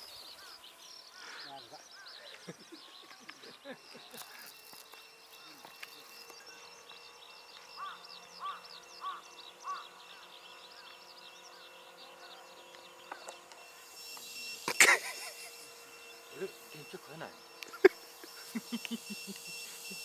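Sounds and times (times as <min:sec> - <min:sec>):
model helicopter hum: 0:00.0 - 0:20.0
small birds chirping: 0:00.0 - 0:20.0.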